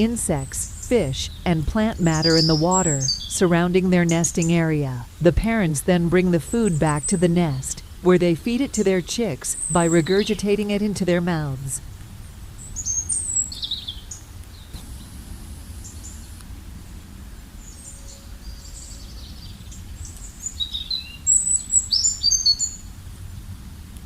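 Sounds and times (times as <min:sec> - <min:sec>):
birds twittering: 0:00.0 - 0:16.4, 0:17.5 - 0:22.9
low background rumble: 0:00.0 - 0:20.4.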